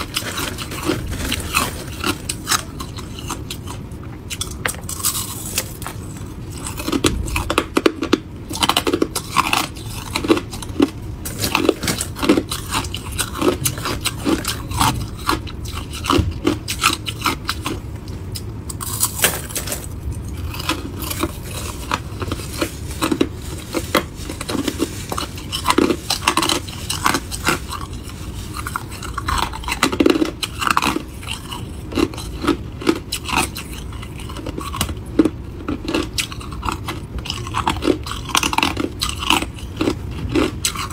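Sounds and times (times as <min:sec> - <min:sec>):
chewing crushed ice: 0:00.0 - 0:40.9.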